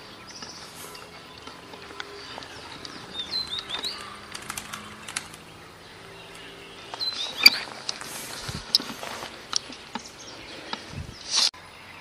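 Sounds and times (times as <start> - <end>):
sharp bird chips: 0.0 - 11.5.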